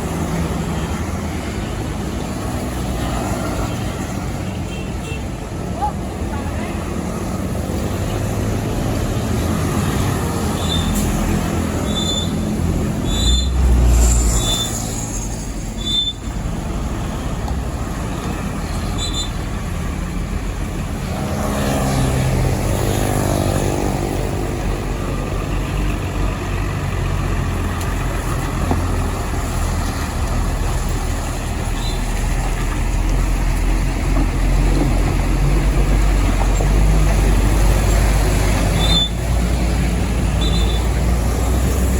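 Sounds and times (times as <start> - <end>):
trucks driving past: 0.0 - 41.9.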